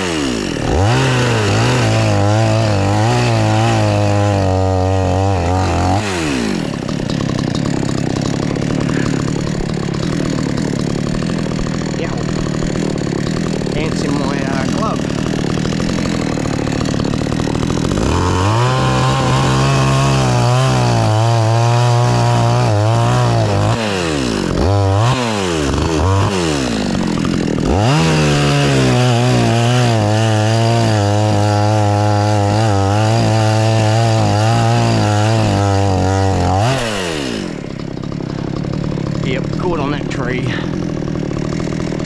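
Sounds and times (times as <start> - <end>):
chainsaw cutting into tree trunk: 0.0 - 42.0.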